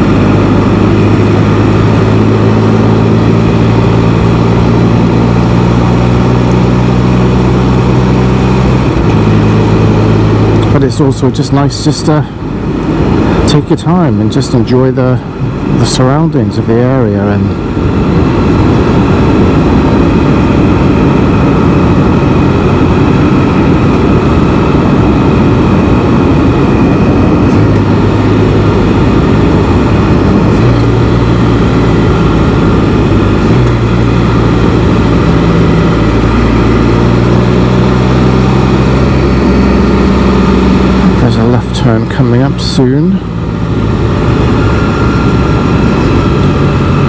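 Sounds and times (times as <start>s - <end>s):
motorcycle engine riding: 0.0s - 47.0s
wind and road noise: 0.0s - 47.0s.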